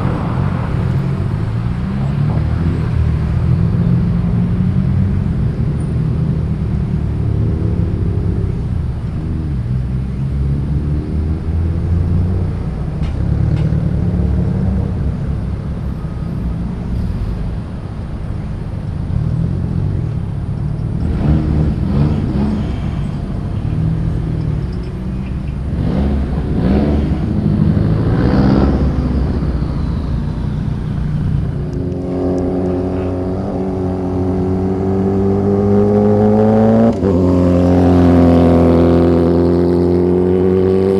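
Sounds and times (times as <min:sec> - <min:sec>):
car engines running in low gear: 0:00.0 - 0:40.9
engine accelerating: 0:00.0 - 0:40.9.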